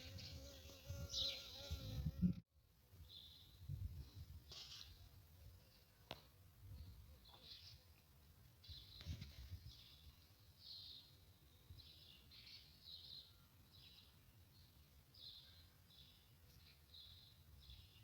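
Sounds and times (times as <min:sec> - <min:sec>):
songbirds chirping faintly: 0:02.6 - 0:18.0.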